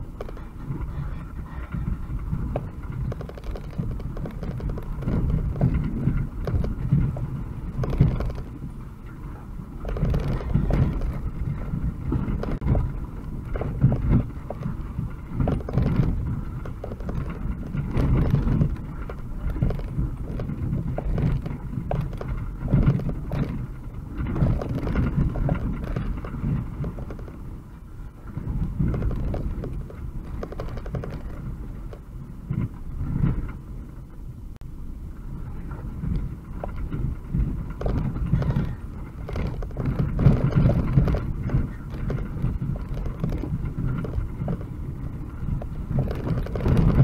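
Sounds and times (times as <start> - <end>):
van engine rumble: 0.0 - 47.0
body knocks and rattles: 2.4 - 8.6, 9.8 - 27.4, 28.3 - 33.5, 36.6 - 47.0.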